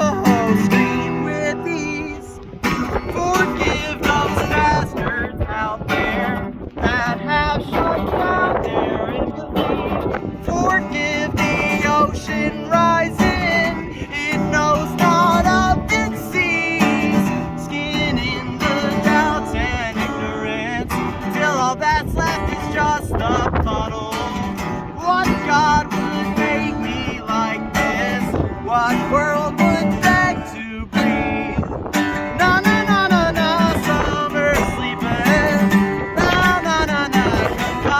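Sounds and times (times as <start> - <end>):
acoustic guitar strummed and picked: 0.0 - 37.9.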